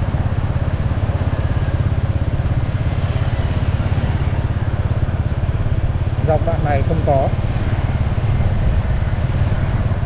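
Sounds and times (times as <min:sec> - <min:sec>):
motorbike engine running: 0:00.0 - 0:10.0.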